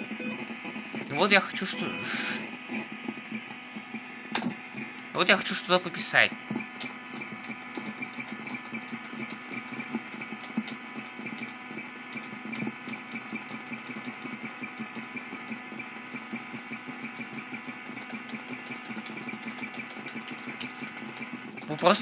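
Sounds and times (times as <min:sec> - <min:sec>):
electrical interference buzz: 0:00.0 - 0:22.0.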